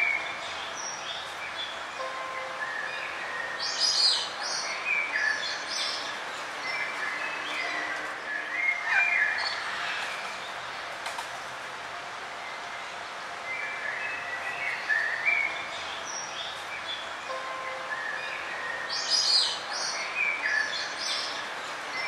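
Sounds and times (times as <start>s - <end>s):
songbirds chirping and whistling: 0.0s - 11.0s, 13.5s - 22.0s
steady background hiss: 0.0s - 22.0s.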